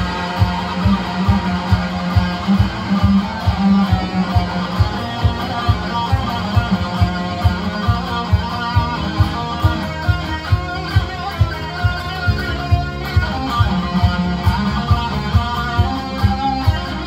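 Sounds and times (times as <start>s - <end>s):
disco backing track: 0.0s - 17.0s
electric guitar playing: 0.0s - 17.0s.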